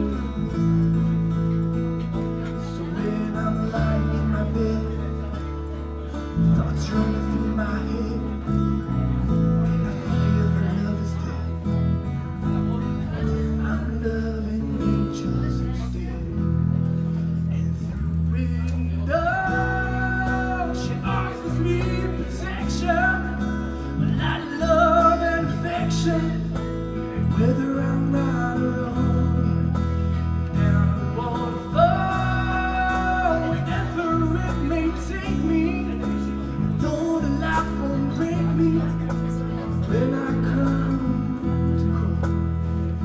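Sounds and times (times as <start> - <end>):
bass guitar: 0.0 - 43.0
strummed acoustic guitars: 0.0 - 43.0.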